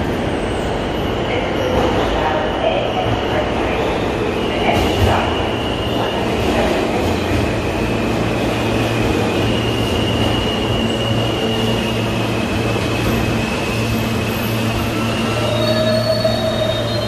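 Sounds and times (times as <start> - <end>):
subway train motors humming: 0.0 - 17.0.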